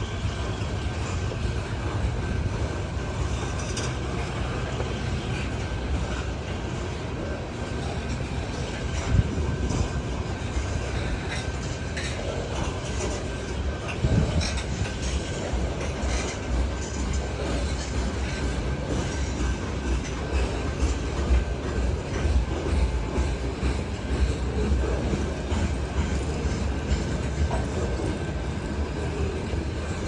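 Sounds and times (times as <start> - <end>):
freight train rumbling past: 0.0 - 30.0
wheels clicking over rail joints: 0.0 - 30.0.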